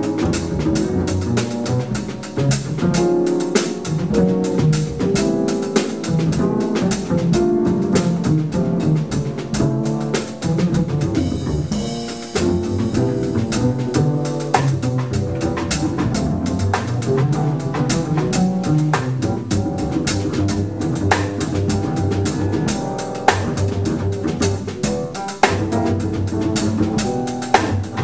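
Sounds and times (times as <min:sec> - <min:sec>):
double bass: 0:00.0 - 0:28.0
drum kit with cymbals: 0:00.0 - 0:28.0
grand piano: 0:00.0 - 0:28.0.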